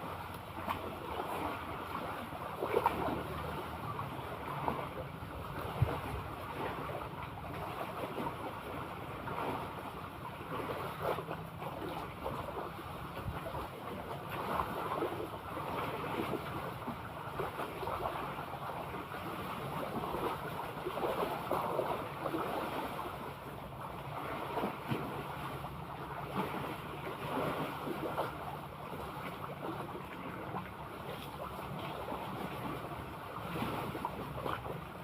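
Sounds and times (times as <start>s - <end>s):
sea water washing and sloshing: 0.0s - 35.0s.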